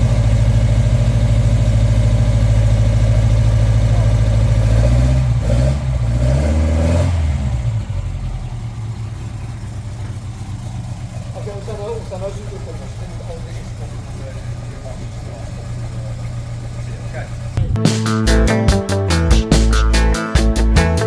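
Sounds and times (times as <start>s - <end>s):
car engine idling and revving: 0.0s - 17.8s.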